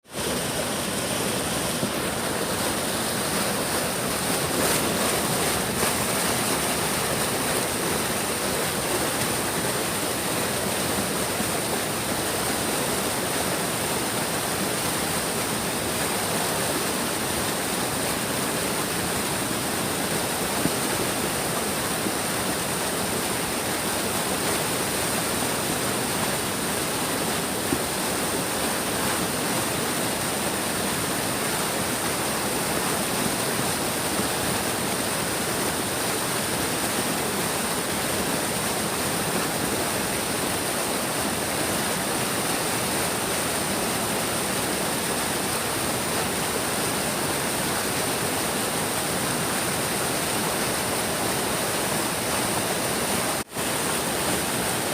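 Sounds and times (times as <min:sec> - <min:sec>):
stream flowing: 0:00.0 - 0:54.9.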